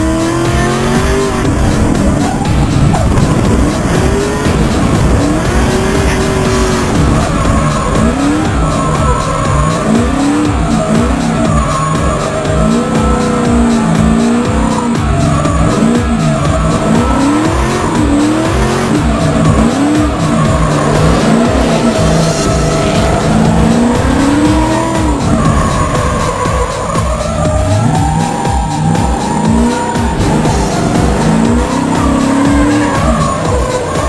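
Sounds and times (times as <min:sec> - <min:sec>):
car engine revving: 0:00.0 - 0:34.0
tyres squealing: 0:00.0 - 0:34.0.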